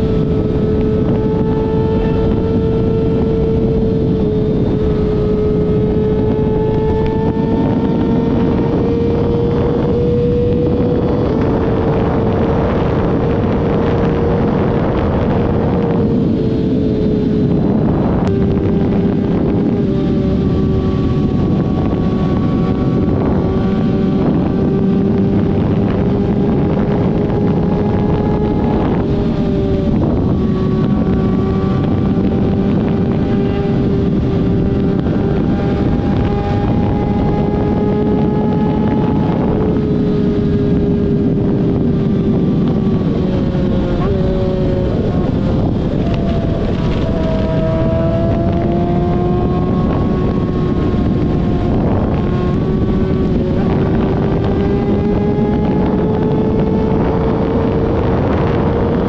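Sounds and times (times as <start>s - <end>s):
vehicle engine running: 0.0s - 59.0s
wind rushing over microphone: 0.0s - 59.0s.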